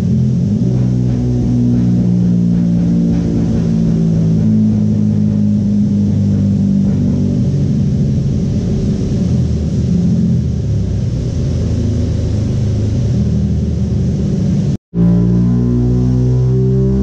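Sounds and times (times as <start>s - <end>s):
motorcycle engine running: 0.0s - 17.0s
rear wheel driving dyno roller: 0.0s - 17.0s.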